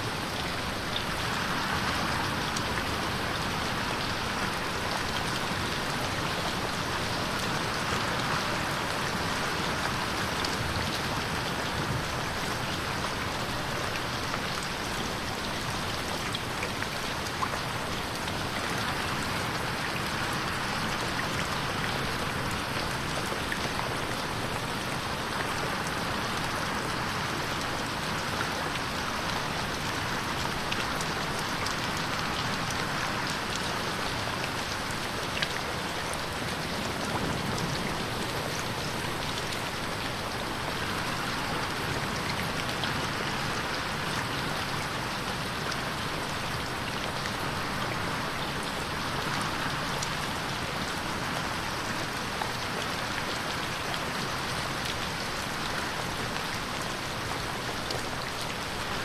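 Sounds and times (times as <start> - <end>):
rain pattering on window: 0.0 - 59.0.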